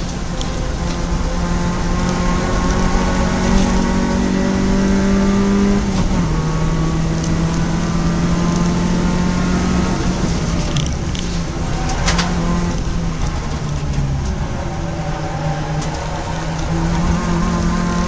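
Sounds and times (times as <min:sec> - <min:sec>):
race car engine running: 0:00.0 - 0:18.0.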